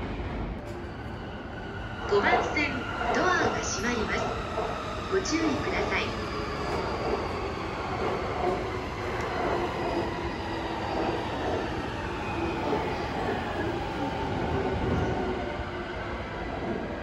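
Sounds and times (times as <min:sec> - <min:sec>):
electric trains rumbling: 0:00.0 - 0:17.0.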